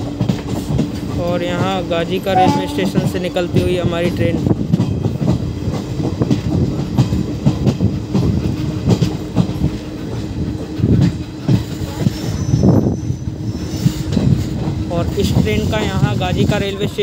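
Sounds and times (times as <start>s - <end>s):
train wheels clattering over track: 0.0s - 17.0s.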